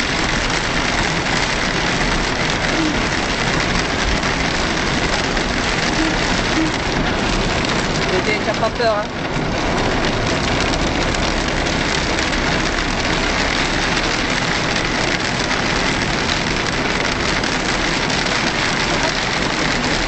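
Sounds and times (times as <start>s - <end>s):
heavy rain drumming on car roof: 0.0s - 20.0s
vehicle running noise: 0.0s - 20.0s.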